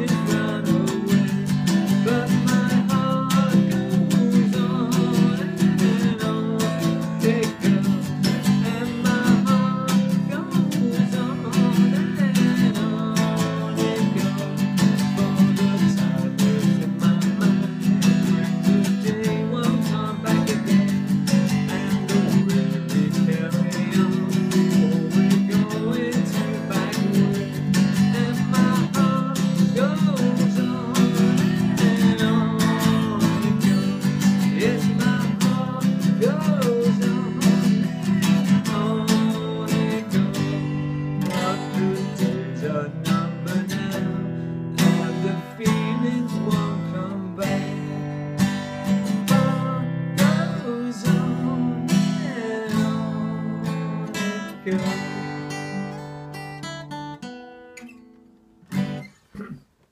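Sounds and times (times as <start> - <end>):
man singing: 0.0 - 56.1
acoustic guitar strumming: 0.0 - 59.8.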